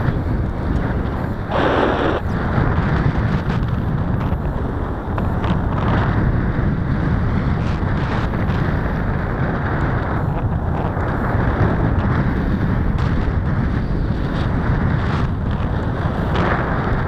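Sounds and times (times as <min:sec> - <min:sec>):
wind buffeting a microphone: 0:00.0 - 0:17.0.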